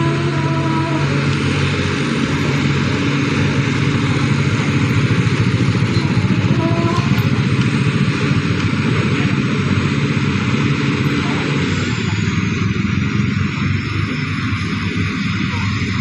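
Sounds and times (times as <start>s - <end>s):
engine running with pulsing rattle: 0.0s - 16.0s.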